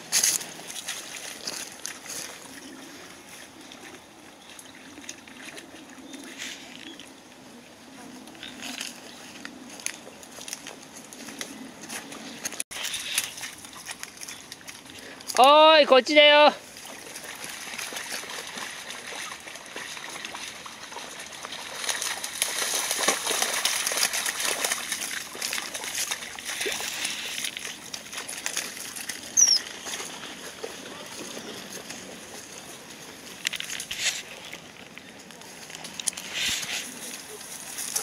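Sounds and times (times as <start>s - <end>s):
rustling through dry reeds: 0.0s - 15.5s, 16.6s - 38.0s
dogs splashing through water: 0.0s - 15.8s, 16.5s - 38.0s.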